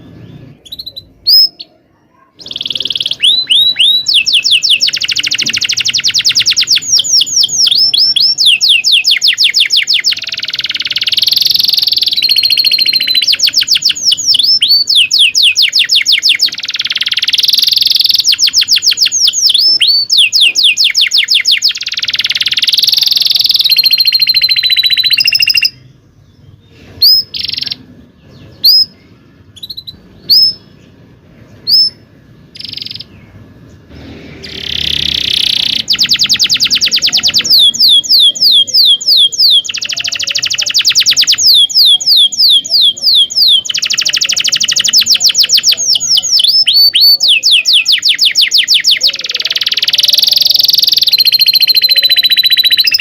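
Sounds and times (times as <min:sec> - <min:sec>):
canary singing: 0:00.0 - 0:53.0.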